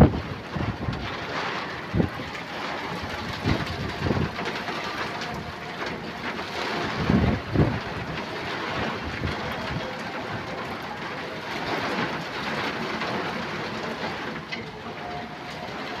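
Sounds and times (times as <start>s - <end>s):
rain on a rooftop: 0.0s - 16.0s.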